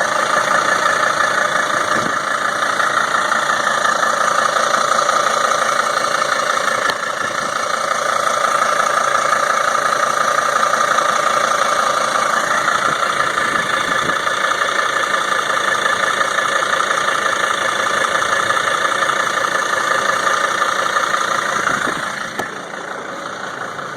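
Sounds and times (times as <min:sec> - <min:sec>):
van engine idling with knocking: 0:00.0 - 0:23.9.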